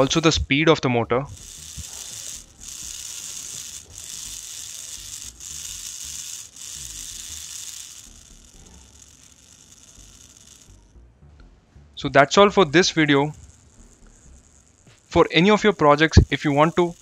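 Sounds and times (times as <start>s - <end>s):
small geared motor whirring: 0.0s - 11.4s, 12.0s - 17.0s.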